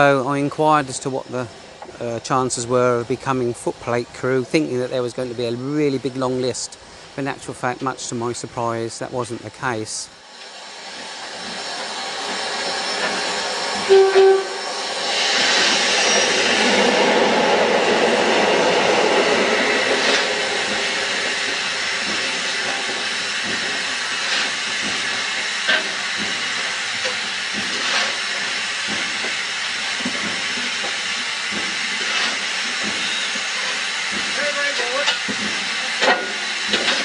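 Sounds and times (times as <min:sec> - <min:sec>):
steam locomotive hissing: 0:00.0 - 0:37.0.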